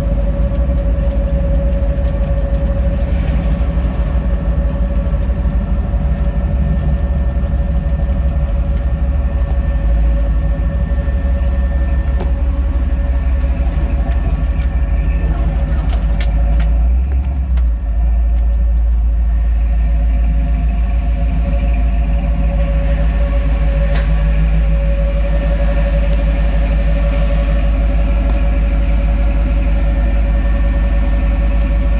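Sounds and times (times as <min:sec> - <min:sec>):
engine and road rumble: 0:00.0 - 0:31.9
steady whine: 0:00.0 - 0:31.9.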